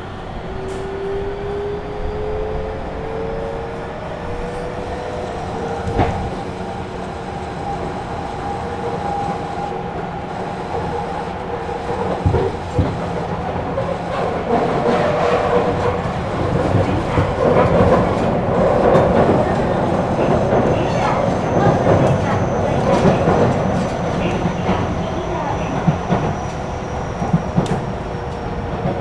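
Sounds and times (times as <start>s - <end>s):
traction motor whine: 0.0s - 29.0s
wheel and rail rumble: 0.0s - 29.0s.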